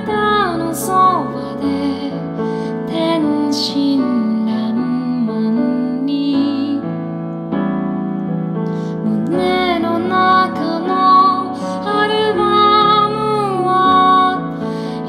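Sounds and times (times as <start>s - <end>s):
instrumental music with keyboard: 0.0s - 15.0s.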